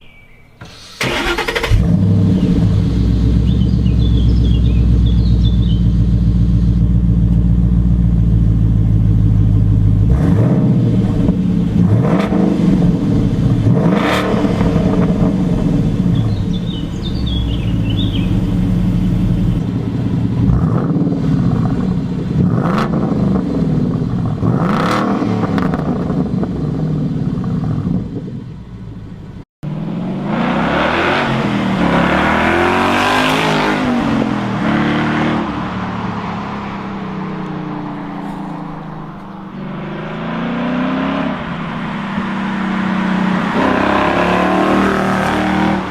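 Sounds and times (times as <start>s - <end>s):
car engine idling and revving: 0.1s - 45.9s.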